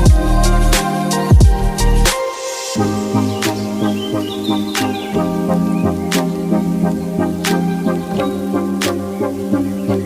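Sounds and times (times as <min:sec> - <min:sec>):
melody over a bass line: 0:00.0 - 0:02.2, 0:02.8 - 0:10.0.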